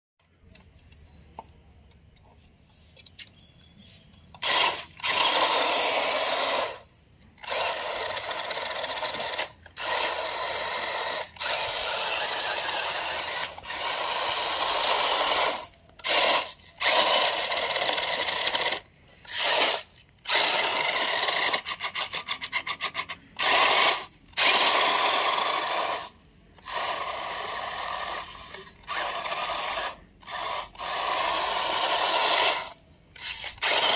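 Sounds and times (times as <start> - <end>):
toy car motor whirring: 4.2 - 33.9
tyres churning through kernels: 4.3 - 33.9.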